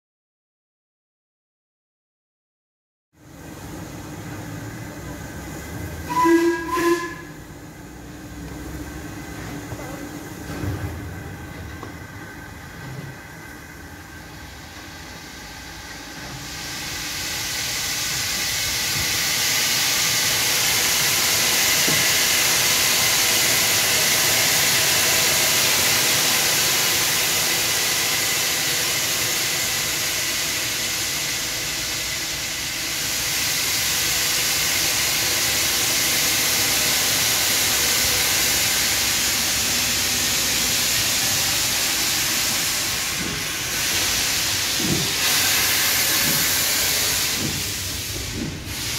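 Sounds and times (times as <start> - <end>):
steam locomotive hissing steam: 3.2 - 48.9.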